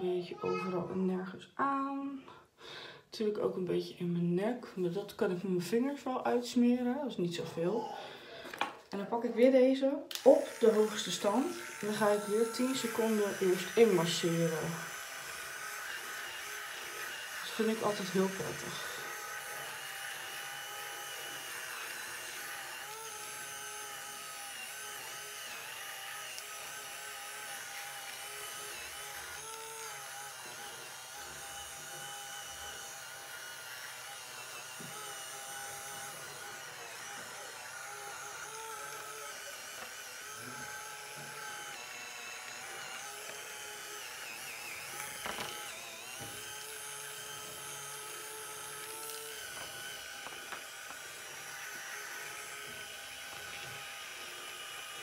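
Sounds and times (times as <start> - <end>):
small electric motor whining: 10.1 - 55.0.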